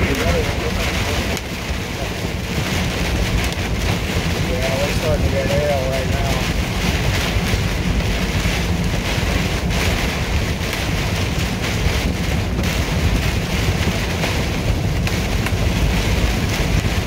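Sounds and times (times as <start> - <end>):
deep vehicle rumble: 0.0 - 17.0
rain on windshield: 0.0 - 17.0
tyres hissing on wet road: 0.0 - 17.0.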